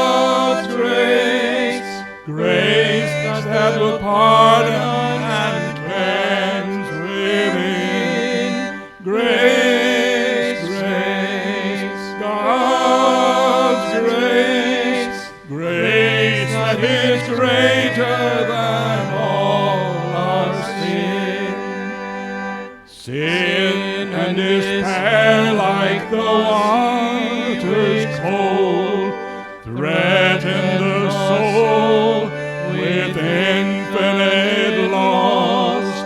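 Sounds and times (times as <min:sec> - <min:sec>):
man singing a hymn: 0:00.0 - 0:22.1, 0:22.9 - 0:36.0
organ chords: 0:00.0 - 0:36.0.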